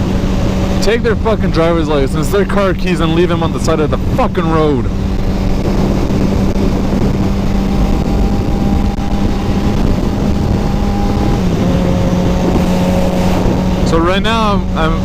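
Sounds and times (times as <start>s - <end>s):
motorcycle engine running: 0.0s - 15.0s
wind rush over microphone: 0.0s - 15.0s.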